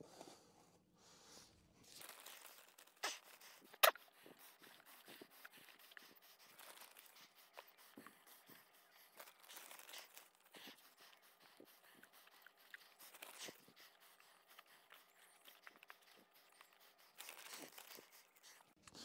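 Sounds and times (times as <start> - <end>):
crackly rustling of soil: 1.8 - 18.8.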